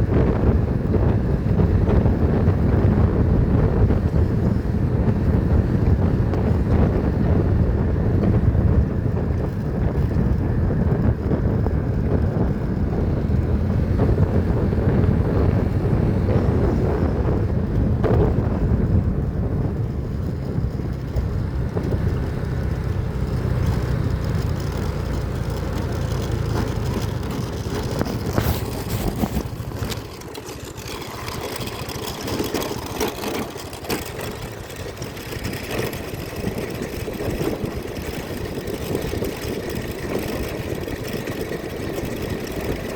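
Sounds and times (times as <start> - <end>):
vehicle road rumble: 0.0 - 42.9
wind on microphone: 0.0 - 42.9.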